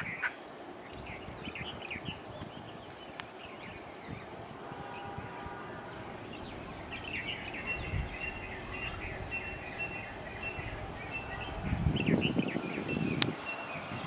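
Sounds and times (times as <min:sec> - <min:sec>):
small birds chirping: 0:00.0 - 0:14.0
low outdoor hum: 0:00.4 - 0:14.0.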